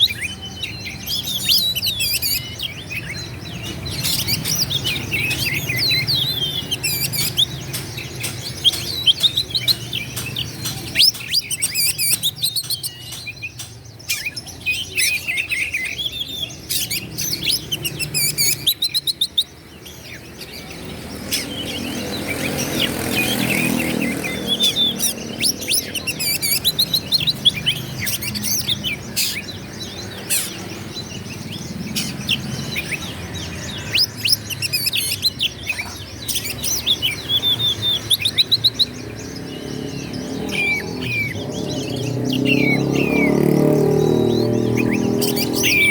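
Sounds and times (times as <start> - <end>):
bird singing whistles and chirps: 0.0 - 45.9.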